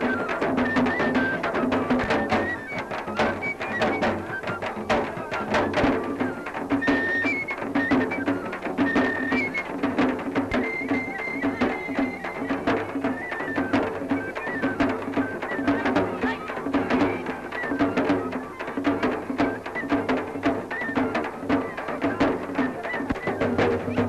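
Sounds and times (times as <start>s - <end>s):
folk music with drums and melody: 0.0s - 24.0s.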